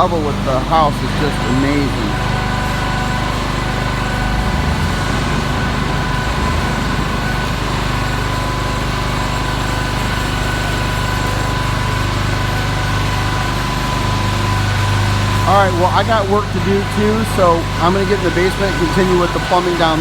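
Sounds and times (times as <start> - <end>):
small engine running steadily: 0.0 - 20.0.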